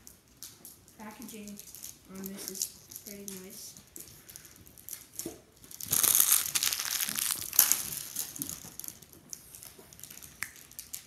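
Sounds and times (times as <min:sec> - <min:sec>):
plastic packaging crinkling: 0:00.4 - 0:11.0.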